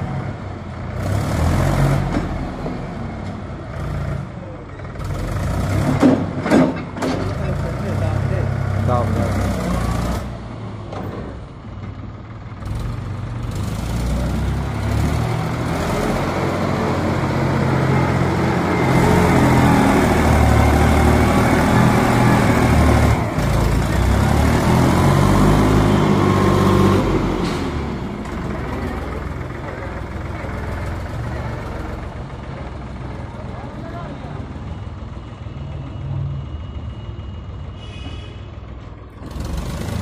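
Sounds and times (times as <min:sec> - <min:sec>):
tractor diesel engine running: 0:00.0 - 0:37.8, 0:38.4 - 0:40.0
engine whine: 0:02.0 - 0:40.0.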